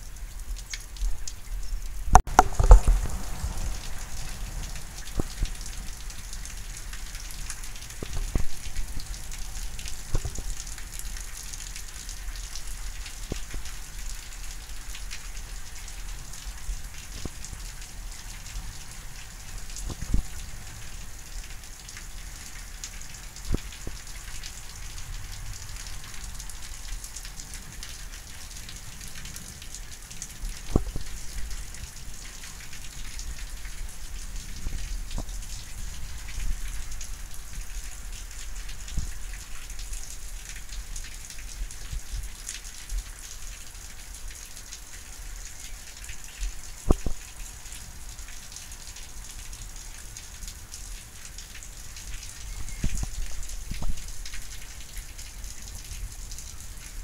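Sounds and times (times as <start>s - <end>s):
raindrops tapping close by: 0.0s - 57.0s
steady rain hiss: 0.0s - 57.0s.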